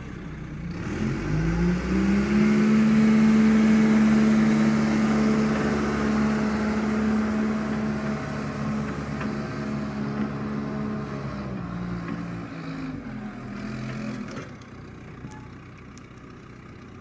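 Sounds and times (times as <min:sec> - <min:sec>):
backhoe engine revving: 0:00.0 - 0:17.0.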